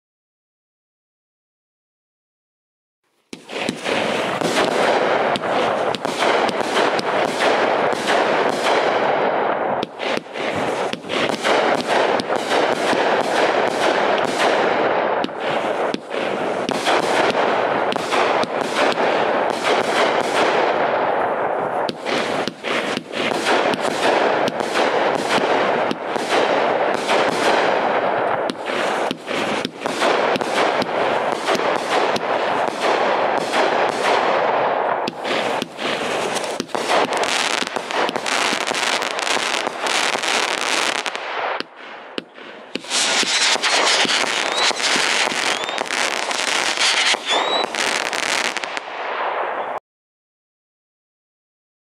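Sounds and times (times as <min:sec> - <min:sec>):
fireworks bursts: 0:03.3 - 0:49.8
fireworks cake firing: 0:03.3 - 0:49.8.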